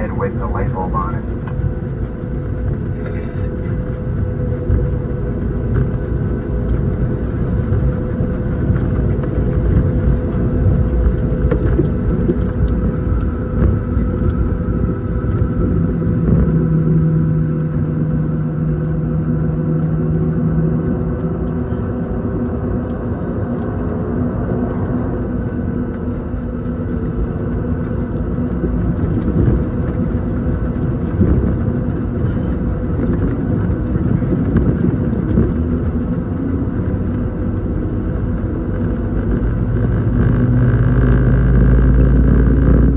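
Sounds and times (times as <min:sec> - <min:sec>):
deeper hum: 0:00.0 - 0:42.9
jet engines idling rumble: 0:00.0 - 0:42.9.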